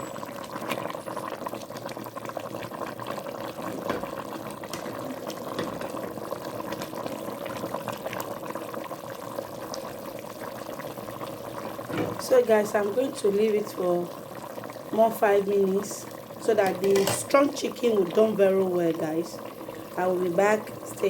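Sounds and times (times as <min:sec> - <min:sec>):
pot of stock boiling: 0:00.0 - 0:21.0.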